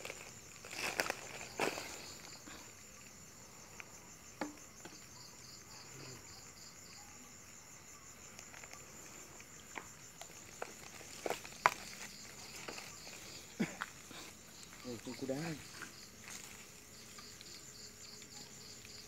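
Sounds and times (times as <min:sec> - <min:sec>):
night insects chirring: 0:00.0 - 0:19.0
pulsed insect call: 0:00.0 - 0:19.0.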